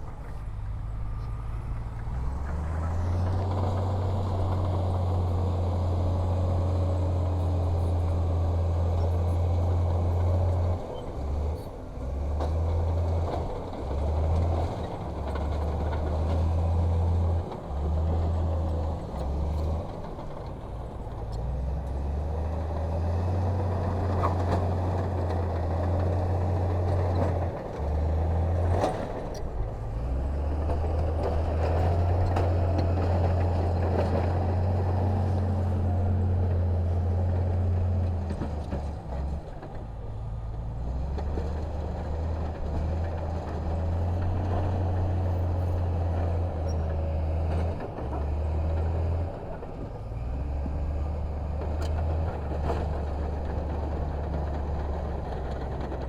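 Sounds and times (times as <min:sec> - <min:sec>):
heavy diesel machinery rumbling: 0:00.0 - 0:56.0.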